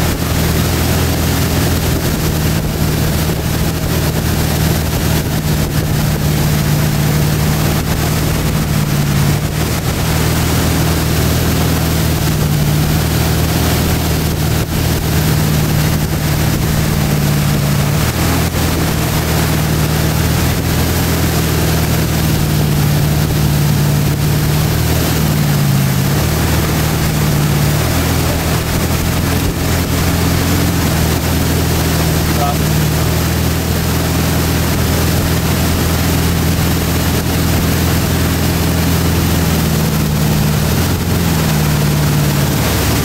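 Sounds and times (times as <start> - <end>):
boat engine running: 0.0 - 43.0
rushing water: 0.0 - 43.0
rushing wind: 0.0 - 43.0.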